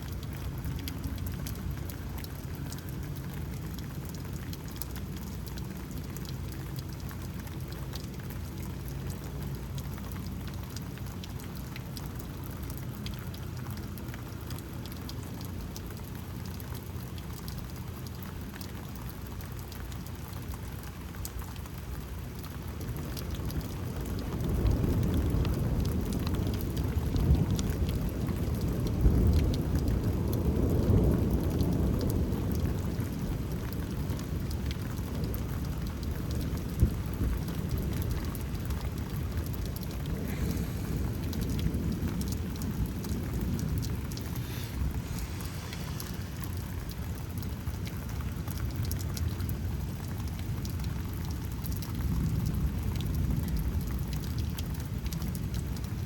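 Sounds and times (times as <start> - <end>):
low rumble of thunder: 0.0 - 56.0
steady rain falling: 0.0 - 56.0.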